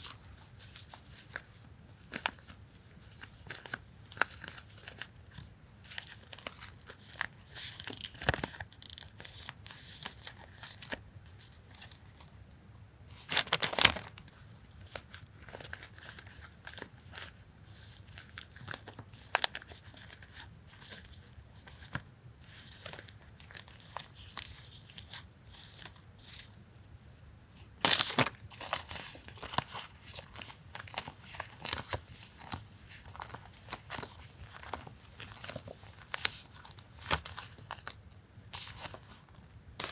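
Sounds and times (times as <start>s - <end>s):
packaging crinkling and rustling: 0.0s - 12.3s, 13.2s - 26.5s, 27.8s - 39.9s.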